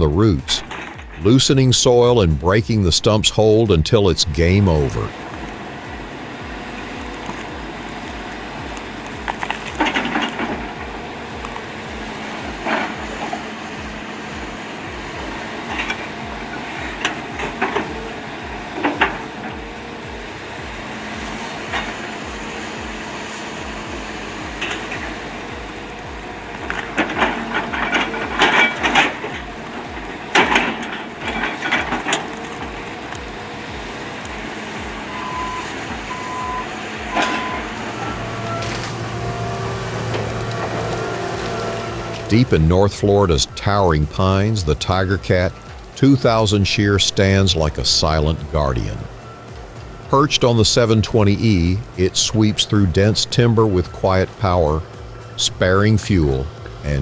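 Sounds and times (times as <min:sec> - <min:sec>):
diesel engine throbbing: 0:00.0 - 0:57.0
excavator running: 0:00.0 - 0:57.0
roots crackling and scraping: 0:00.0 - 0:57.0.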